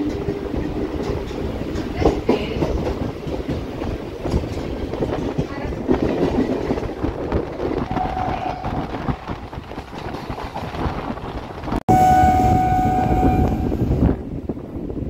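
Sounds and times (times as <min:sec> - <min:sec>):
electric train rumbling on track: 0:00.0 - 0:15.0.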